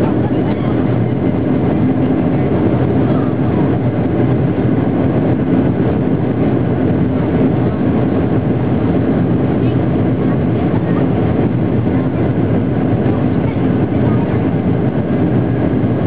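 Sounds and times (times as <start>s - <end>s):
jet engines at high thrust: 0.0s - 16.0s
low hum through fuselage: 0.0s - 16.0s.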